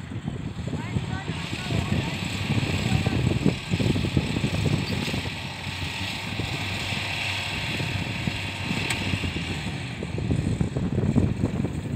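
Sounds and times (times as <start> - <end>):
tracked vehicle engine running: 0.0 - 11.9.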